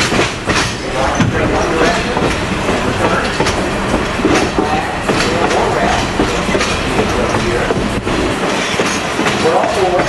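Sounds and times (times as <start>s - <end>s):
train rumbling on rails: 0.0s - 10.0s
wheels clicking over rail joints: 0.0s - 10.0s.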